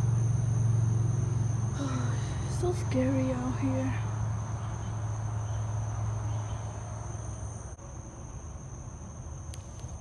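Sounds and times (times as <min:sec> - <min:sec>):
crickets trilling: 0:00.0 - 0:10.0
low steady hum: 0:00.0 - 0:10.0.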